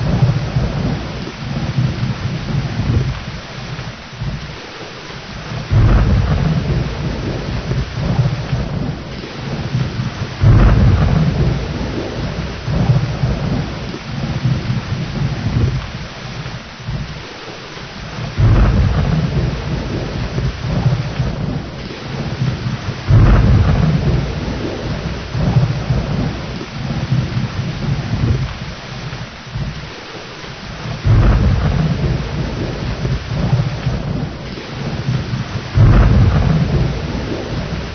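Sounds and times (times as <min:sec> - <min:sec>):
heavy rain: 0:00.0 - 0:37.9
rolling thunder rumbles: 0:00.0 - 0:37.9.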